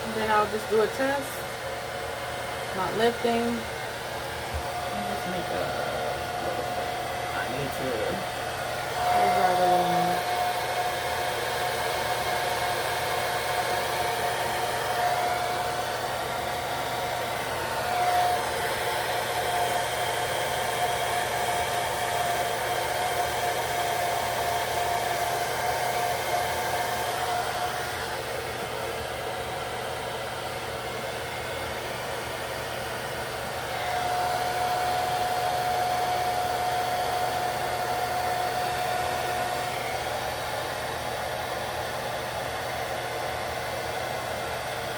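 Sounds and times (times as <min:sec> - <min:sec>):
hair dryer blowing with whine: 0:00.0 - 0:44.9.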